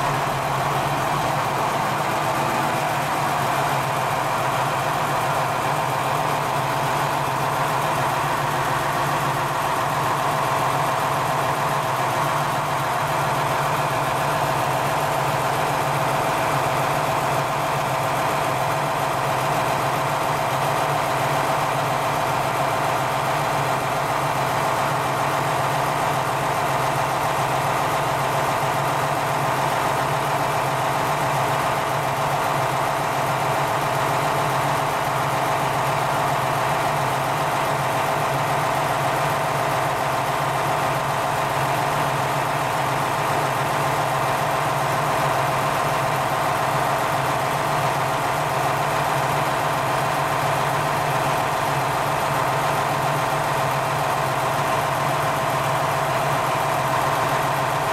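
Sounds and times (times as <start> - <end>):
diesel railcar engine idling: 0.0 - 57.9.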